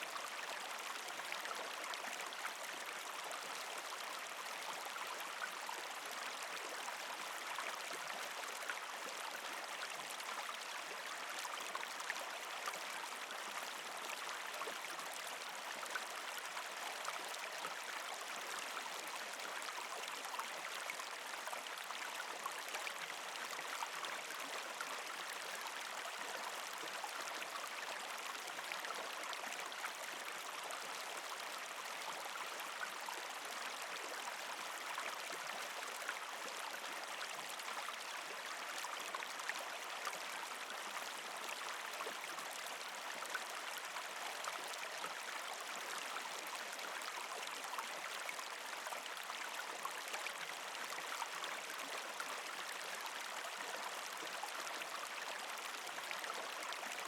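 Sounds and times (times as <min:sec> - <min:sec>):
creek trickling over rocks: 0:00.0 - 0:57.0.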